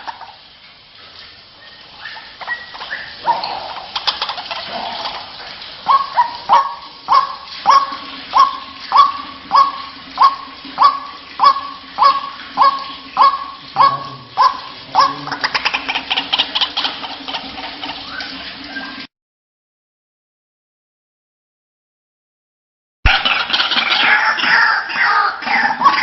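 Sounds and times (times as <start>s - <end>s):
waterhen calling: 0.0s - 19.1s, 23.1s - 26.0s.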